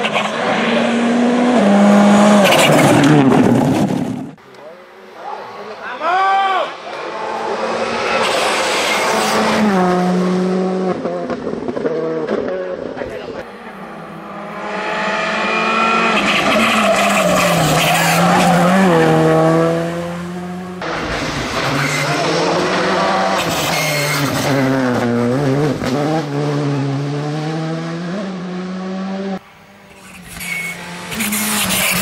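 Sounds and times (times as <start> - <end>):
rally car engine revving: 0.0 - 4.4, 7.0 - 32.0.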